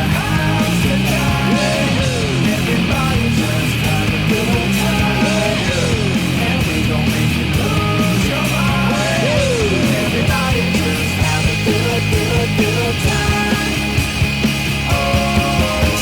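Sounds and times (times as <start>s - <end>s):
bass guitar groove: 0.0s - 16.0s
bending guitar lead lines: 0.0s - 16.0s
distorted electric guitars: 0.0s - 16.0s
rock band playing: 0.0s - 16.0s.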